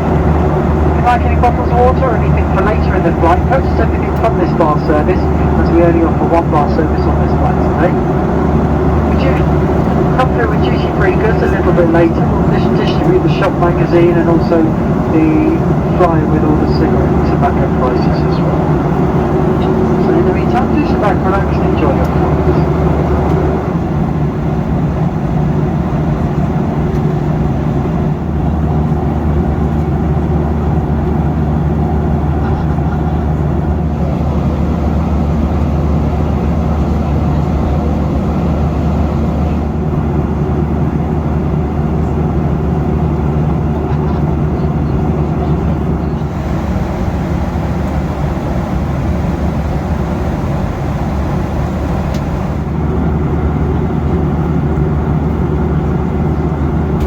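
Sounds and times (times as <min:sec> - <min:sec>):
aircraft cabin engine roar: 0:00.0 - 0:57.0
constant low hum: 0:00.0 - 0:57.0.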